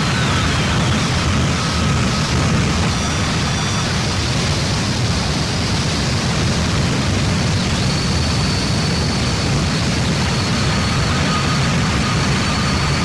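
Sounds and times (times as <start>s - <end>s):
steady high whine: 0.0s - 13.0s.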